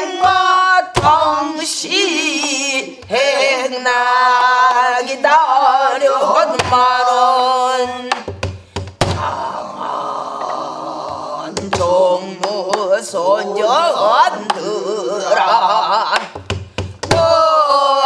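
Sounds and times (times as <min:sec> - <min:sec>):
woman singing with vibrato: 0:00.0 - 0:08.2, 0:09.1 - 0:16.2, 0:17.0 - 0:18.0.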